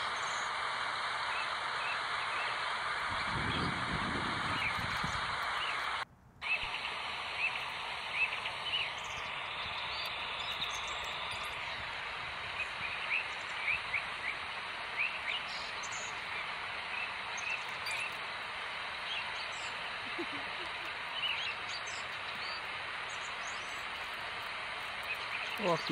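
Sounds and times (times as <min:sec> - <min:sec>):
outdoor background noise: 0:00.0 - 0:25.9
small birds chirping: 0:00.0 - 0:25.9.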